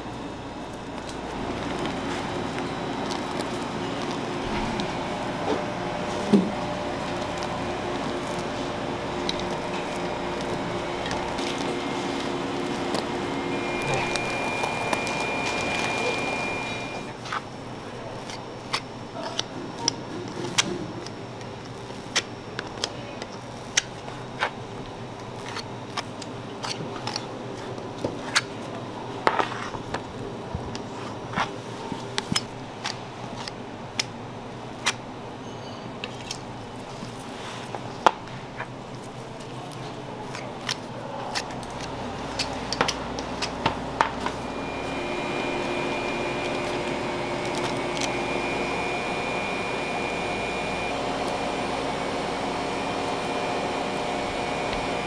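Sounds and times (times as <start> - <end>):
kitchen hum: 0.0 - 55.0.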